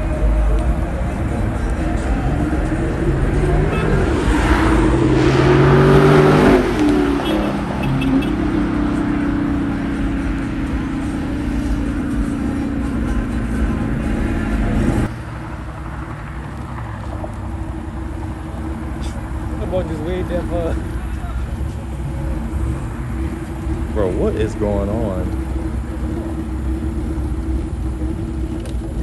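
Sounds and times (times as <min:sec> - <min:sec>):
steady engine drone: 0:00.0 - 0:29.0
vehicle engine accelerating past: 0:00.0 - 0:29.0.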